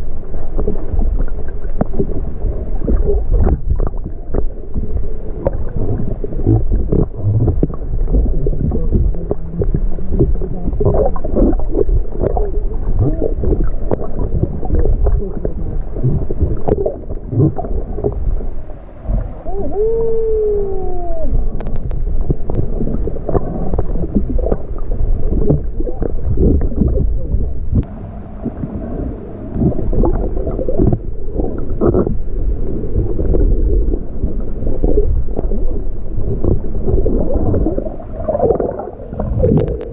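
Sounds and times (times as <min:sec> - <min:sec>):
crackle of knocks and bubbles: 0:00.0 - 0:39.9
muffled underwater water movement: 0:00.0 - 0:39.9.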